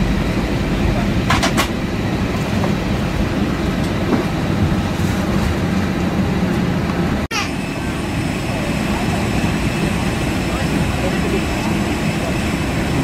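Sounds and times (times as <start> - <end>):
airplane engines and wheels rumbling: 0.0 - 13.0.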